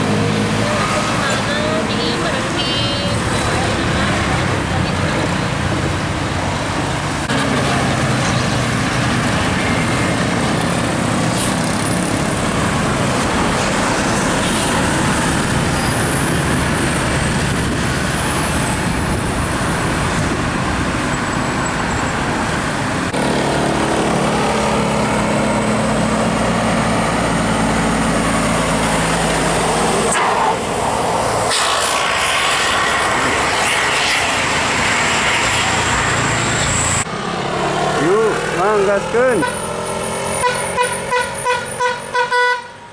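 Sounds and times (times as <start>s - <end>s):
heavy vehicle engine hum: 0.0s - 42.9s
road traffic passing: 0.0s - 42.9s.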